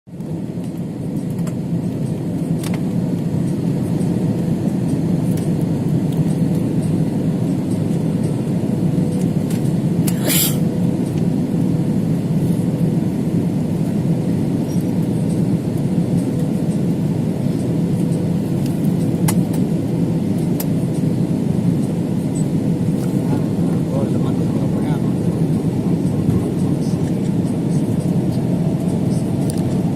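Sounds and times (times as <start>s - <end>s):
airliner cabin rumble: 0.1s - 29.9s.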